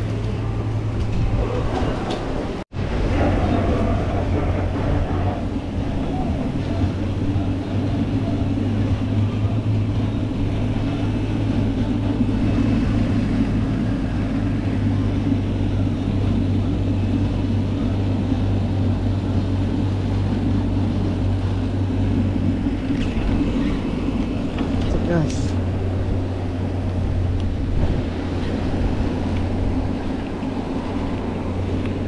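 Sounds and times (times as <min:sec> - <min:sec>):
motor hum: 0:00.0 - 0:32.0
water churning and splashing: 0:00.0 - 0:32.0.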